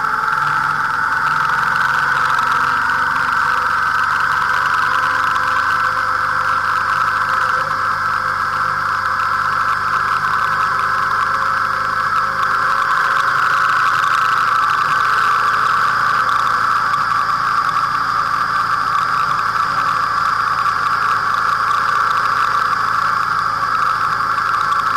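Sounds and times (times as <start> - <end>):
motorcycle engine cruising: 0.0 - 24.9
road and wind noise: 0.0 - 24.9.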